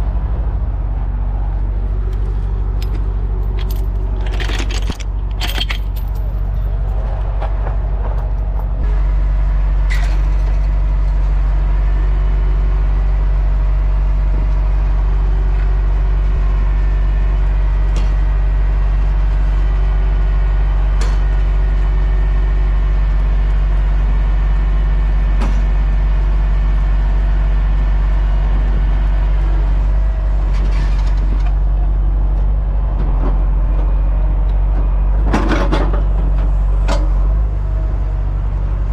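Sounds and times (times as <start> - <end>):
heavy truck engine running: 0.0 - 38.9.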